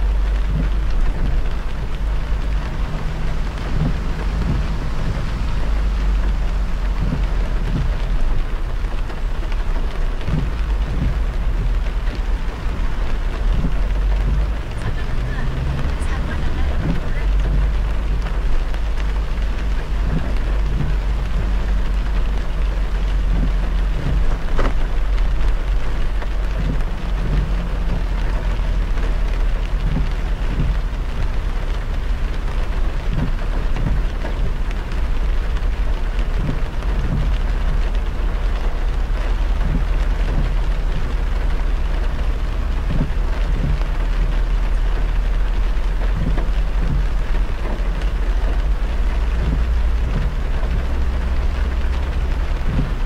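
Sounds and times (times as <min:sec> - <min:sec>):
low road rumble: 0:00.0 - 0:53.0
rain hitting a car: 0:00.0 - 0:53.0
tyres hissing on wet road: 0:00.0 - 0:53.0.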